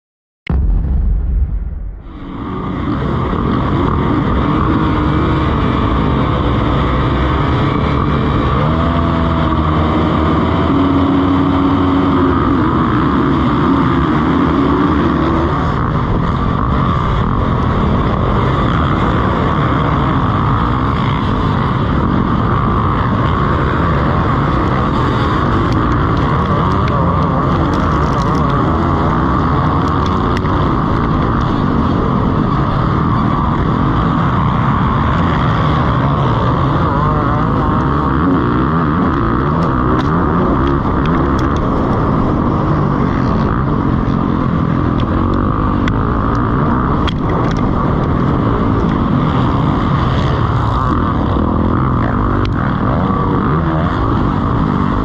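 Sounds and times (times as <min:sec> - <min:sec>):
motocross bike engines racing: 0:02.1 - 0:55.0.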